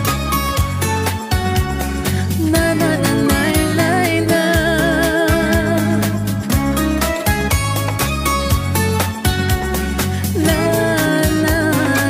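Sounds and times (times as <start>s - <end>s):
pop song with steady beat: 0.0s - 12.0s.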